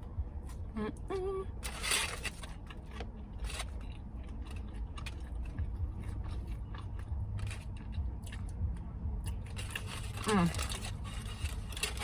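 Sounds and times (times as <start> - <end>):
steady low rumble: 0.0 - 12.0
person chewing: 2.4 - 12.0.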